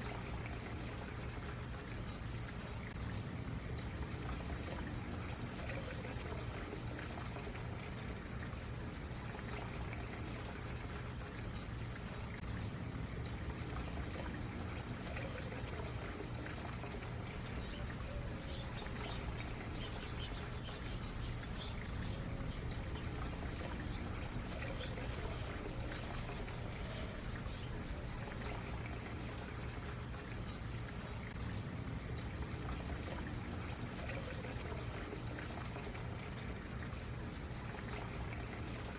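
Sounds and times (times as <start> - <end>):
stream gurgling over stones: 0.0 - 38.9.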